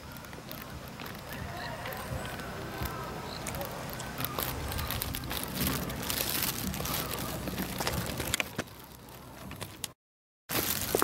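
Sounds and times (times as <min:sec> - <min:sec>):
footsteps on wet pavement: 0:00.0 - 0:11.0.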